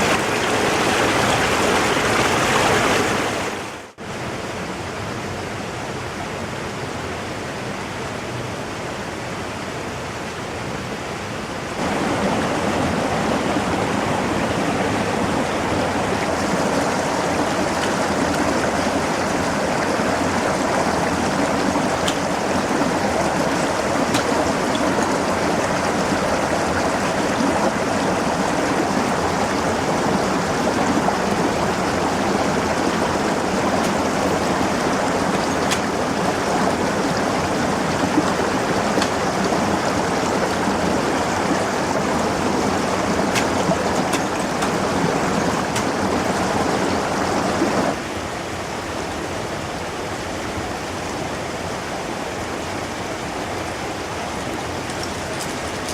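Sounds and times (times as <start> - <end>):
brook water rushing: 0.0 - 55.9.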